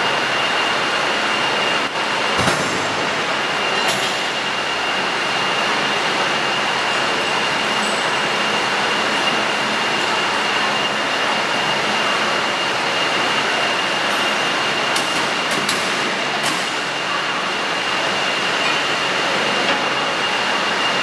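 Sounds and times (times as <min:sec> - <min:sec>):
forklift truck running: 0:00.0 - 0:21.0
high mechanical whine: 0:00.0 - 0:21.0.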